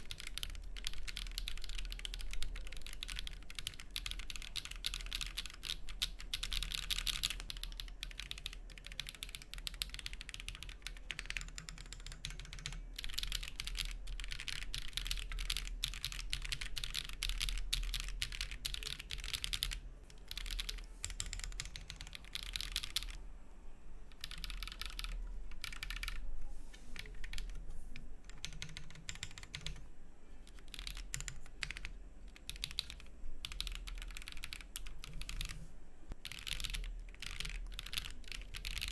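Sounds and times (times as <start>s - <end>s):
typing on mechanical keyboard: 0.0s - 23.2s, 24.1s - 26.2s, 27.0s - 27.6s, 28.2s - 29.8s, 30.5s - 35.6s, 36.2s - 38.9s
faint low hum: 0.0s - 38.9s.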